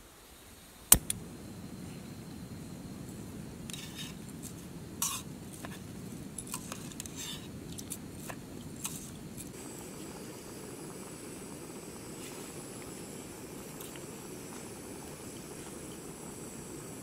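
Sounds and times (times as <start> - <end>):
camping stove burner hissing: 0.6 - 17.0.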